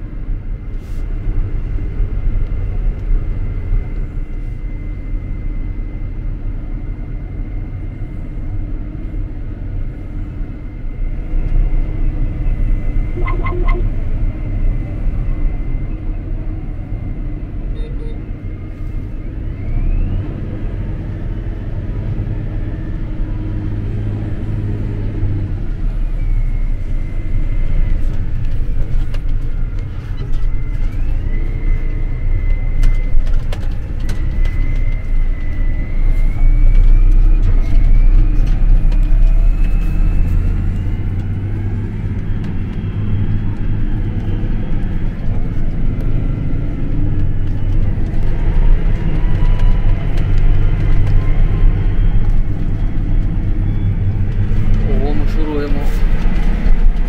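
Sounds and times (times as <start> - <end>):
tractor engine drone: 0.0 - 57.0
high whine rising in pitch: 9.8 - 21.5, 22.3 - 57.0.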